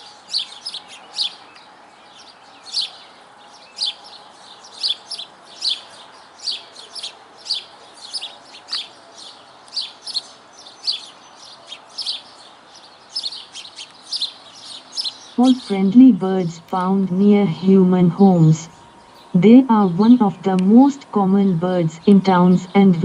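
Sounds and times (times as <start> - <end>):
faint background hiss: 0.0 - 23.0
sparrows chirping: 0.0 - 23.0.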